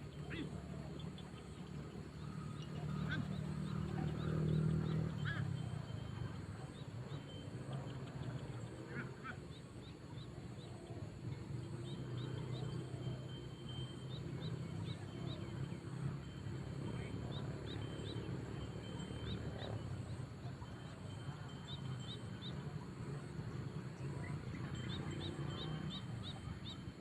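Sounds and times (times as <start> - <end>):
doves cooing: 0.0 - 27.0.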